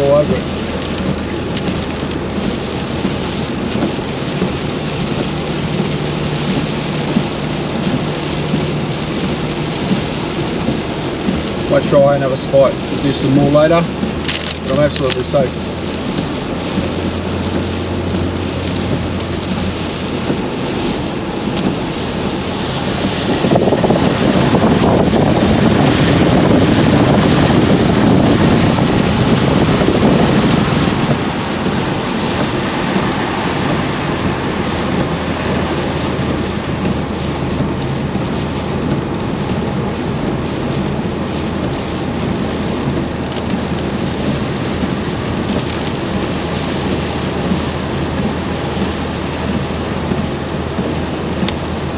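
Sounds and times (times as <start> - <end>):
heavy rain: 0.0 - 51.9
wind buffeting microphone: 0.0 - 51.9.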